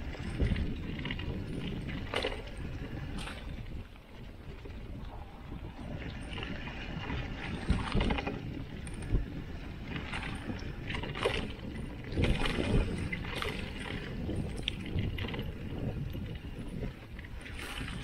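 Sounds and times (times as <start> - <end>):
bike clattering over bumps: 0.0 - 4.8, 5.8 - 18.0
wind rumble on microphone: 0.0 - 18.0.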